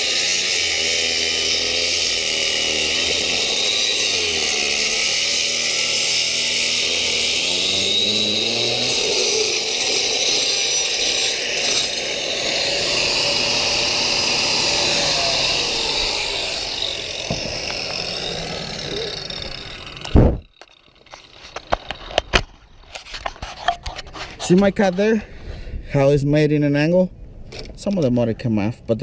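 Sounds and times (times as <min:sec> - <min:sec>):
power cutter grinding masonry: 0:00.0 - 0:24.9.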